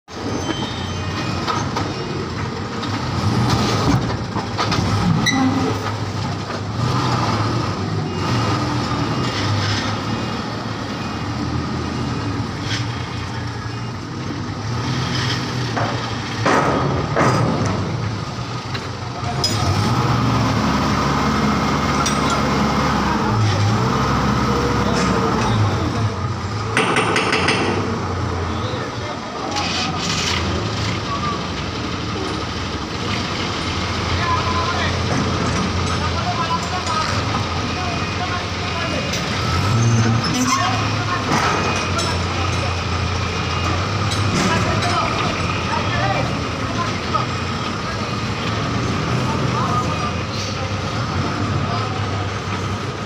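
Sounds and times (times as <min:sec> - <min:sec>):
truck and machinery engines running: 0:00.1 - 0:53.0.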